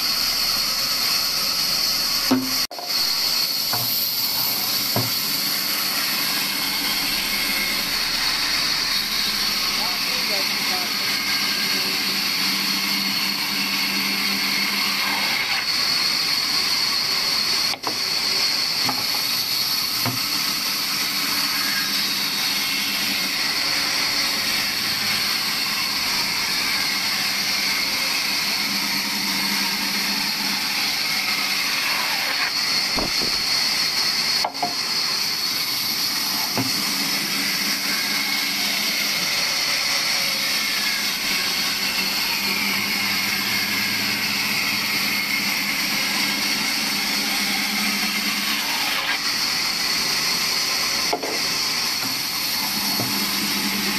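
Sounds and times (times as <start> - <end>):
band saw ripping through log: 2.2 - 16.4, 17.6 - 34.8, 35.5 - 53.9.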